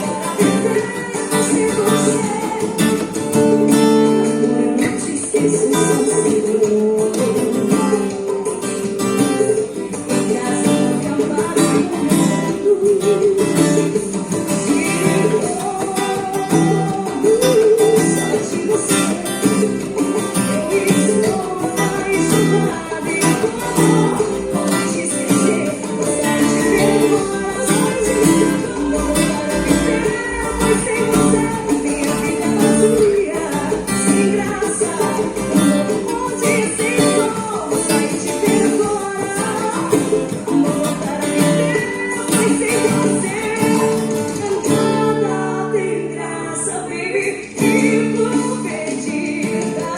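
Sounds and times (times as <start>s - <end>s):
acoustic guitar playing: 0.0s - 49.9s.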